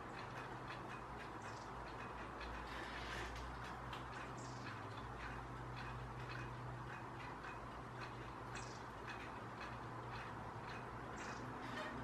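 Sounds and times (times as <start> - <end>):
low steady hum: 0.0 - 12.0
small birds calling: 0.0 - 12.0.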